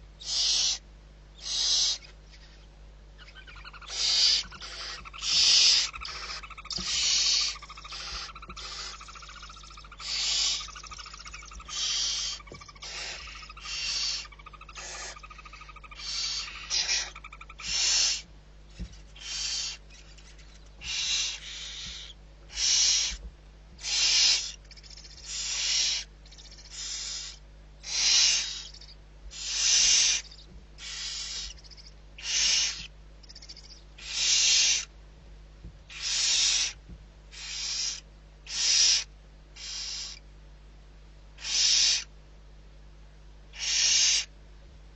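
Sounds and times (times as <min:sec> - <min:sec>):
low constant hum: 0:00.0 - 0:44.9
barn owl hissing calls: 0:00.2 - 0:18.3, 0:19.1 - 0:23.2, 0:23.8 - 0:34.9, 0:35.9 - 0:40.2, 0:41.4 - 0:42.1, 0:43.5 - 0:44.3.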